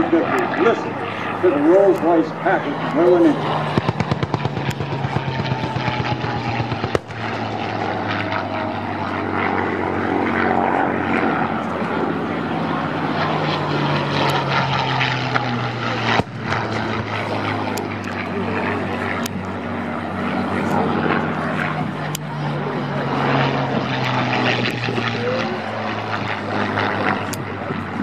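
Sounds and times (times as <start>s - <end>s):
propeller planes flying past: 0.0s - 28.0s.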